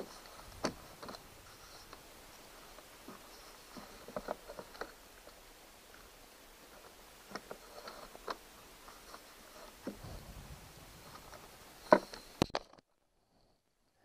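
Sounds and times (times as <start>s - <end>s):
faint plastic rubbing: 0.0s - 12.5s.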